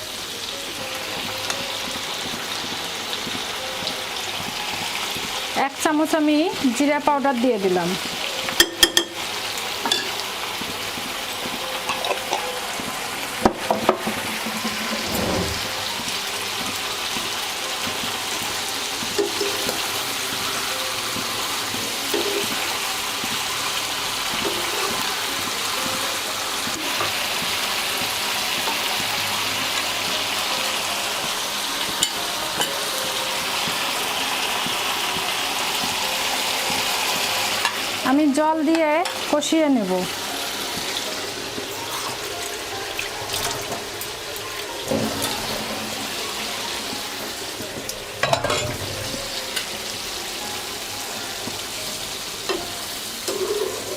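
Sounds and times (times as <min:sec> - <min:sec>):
paste sizzling in a pan: 0:00.0 - 0:53.9.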